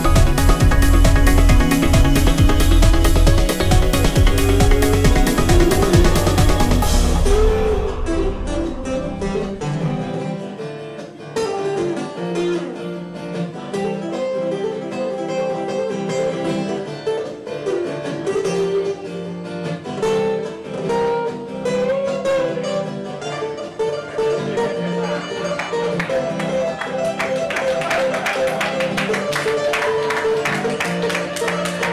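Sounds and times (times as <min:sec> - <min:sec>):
acoustic guitar picked and strummed: 0:00.0 - 0:31.9.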